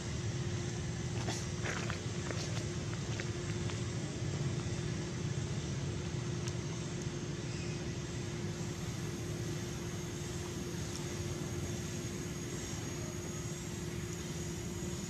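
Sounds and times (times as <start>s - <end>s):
mid-pitched hum: 0.0s - 15.0s.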